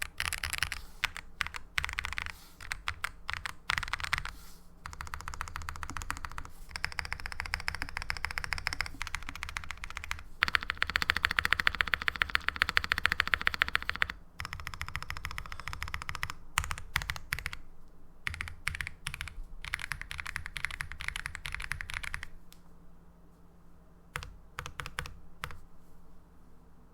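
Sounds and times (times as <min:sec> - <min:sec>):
mechanical keyboard typing: 0:00.0 - 0:17.6, 0:18.2 - 0:22.3, 0:24.2 - 0:25.6.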